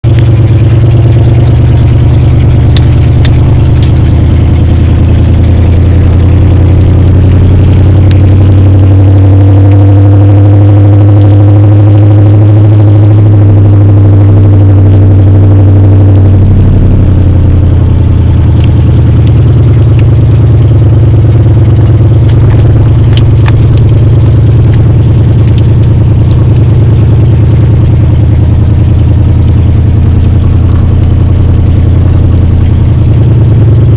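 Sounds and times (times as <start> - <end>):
loud truck exhaust running: 0.0 - 33.9.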